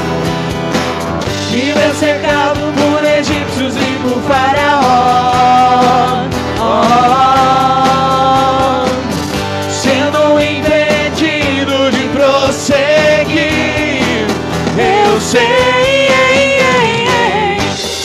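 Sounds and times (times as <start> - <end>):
acoustic guitar: 0.0 - 18.0
keyboard: 0.0 - 18.0
person singing with vibrato: 1.4 - 18.0.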